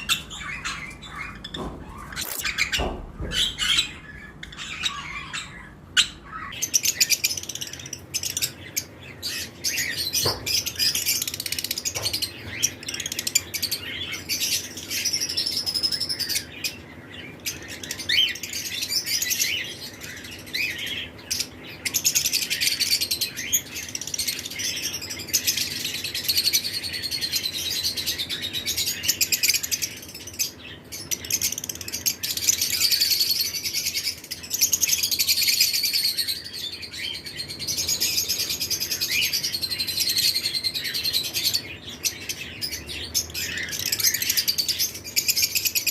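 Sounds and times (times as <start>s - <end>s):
flock of birds chirping: 0.0s - 45.9s.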